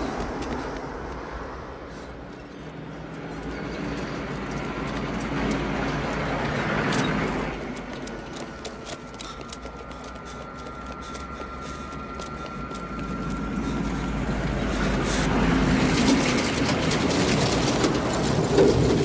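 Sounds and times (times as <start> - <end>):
jet engine noise: 0.0 - 19.0.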